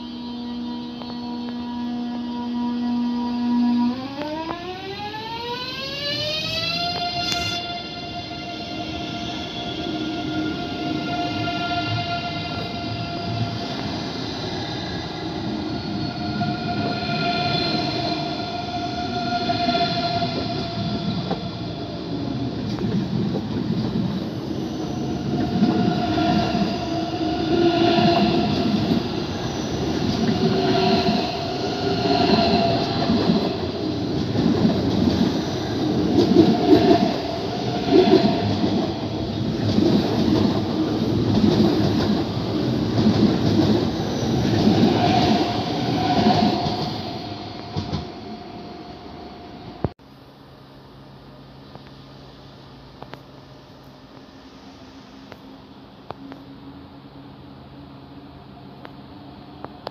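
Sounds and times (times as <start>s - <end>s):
train whine: 0.0s - 59.9s.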